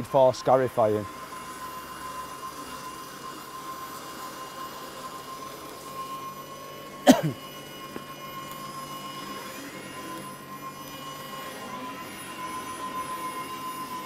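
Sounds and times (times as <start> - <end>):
mower motor whine: 0.0 - 14.0.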